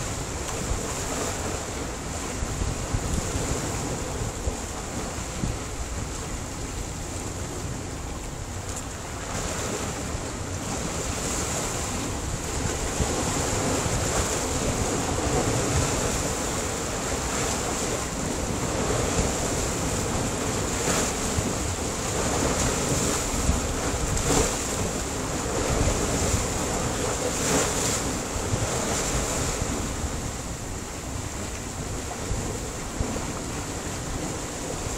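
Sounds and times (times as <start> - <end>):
sea waves breaking on rocks: 0.0 - 34.9.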